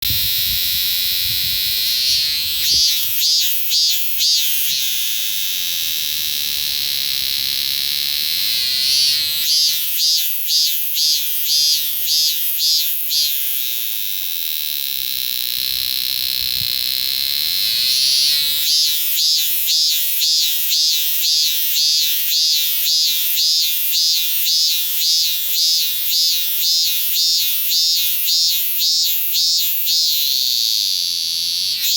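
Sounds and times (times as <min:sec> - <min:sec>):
cicada singing: 0:00.0 - 0:31.9.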